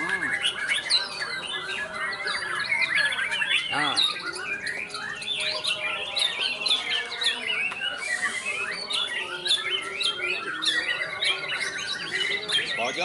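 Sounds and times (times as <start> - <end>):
bird singing whistles and chirps: 0.0 - 13.0
other birds singing: 0.0 - 13.0.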